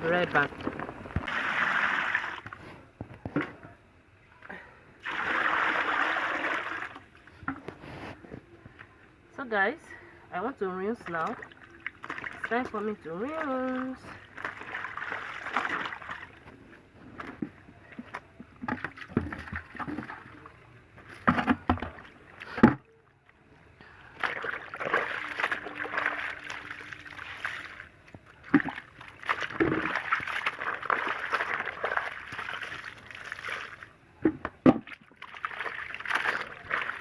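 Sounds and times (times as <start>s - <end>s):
water sloshing and splashing: 0.0s - 3.7s, 4.4s - 8.0s, 9.6s - 37.0s.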